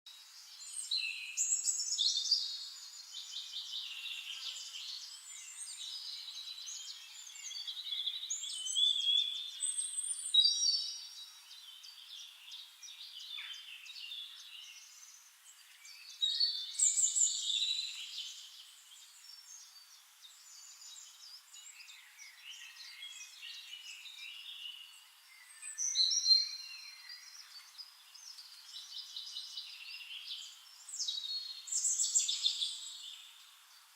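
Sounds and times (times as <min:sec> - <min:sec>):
songbirds singing: 0:00.1 - 0:33.9.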